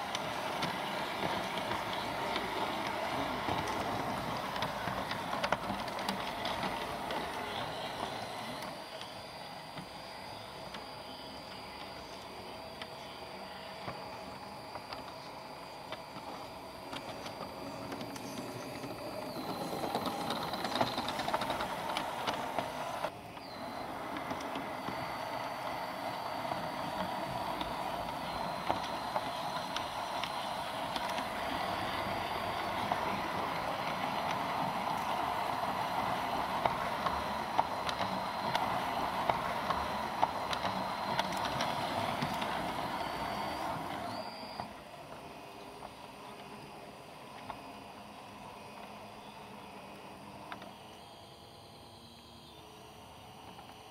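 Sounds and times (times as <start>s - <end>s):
model train motor whir: 0.0s - 13.3s, 14.8s - 44.6s
wheels clicking on rails: 0.0s - 51.6s.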